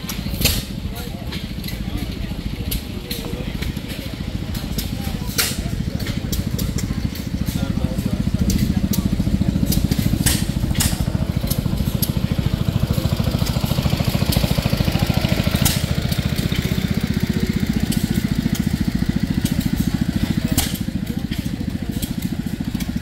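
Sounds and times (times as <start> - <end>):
small engine chugging: 0.0 - 23.0.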